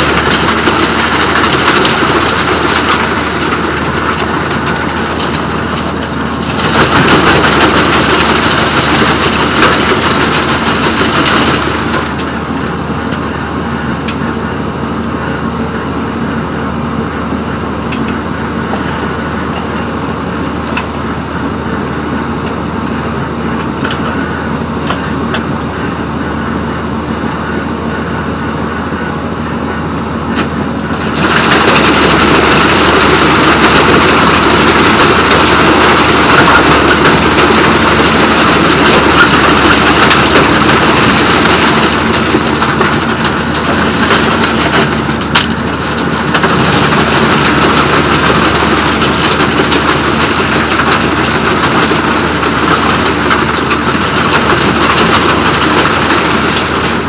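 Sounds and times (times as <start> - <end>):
wood chipper running: 0.0 - 57.0.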